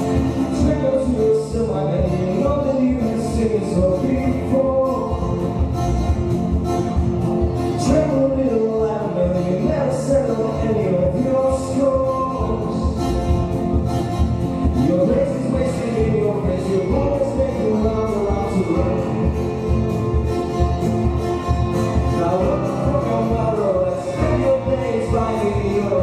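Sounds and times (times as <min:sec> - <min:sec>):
acoustic guitar: 0:00.0 - 0:26.0
double bass: 0:00.0 - 0:26.0
drums: 0:00.0 - 0:26.0
keyboard: 0:00.0 - 0:26.0.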